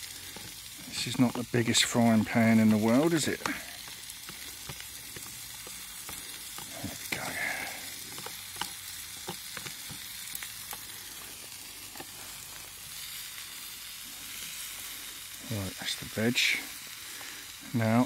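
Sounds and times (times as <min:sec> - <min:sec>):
vegetables sizzling in a frying pan: 0:00.0 - 0:18.0.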